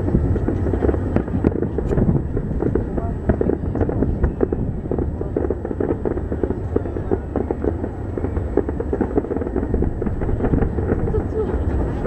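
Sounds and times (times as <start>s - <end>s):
fireworks bangs and crackles: 0.0s - 12.0s
low rumble: 0.0s - 12.0s.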